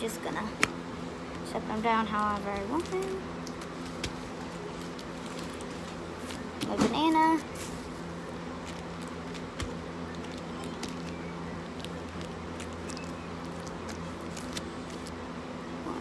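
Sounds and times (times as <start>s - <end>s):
steady low hum: 0.0s - 16.0s
plastic packaging rustling: 2.1s - 15.2s.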